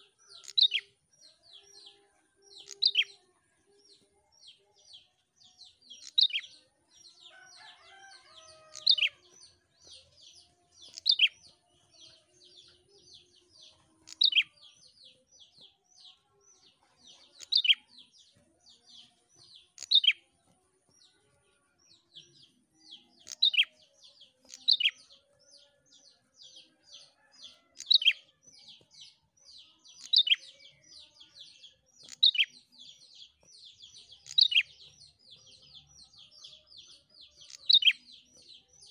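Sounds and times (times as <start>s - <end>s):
bird high chipping song: 0.0s - 38.9s.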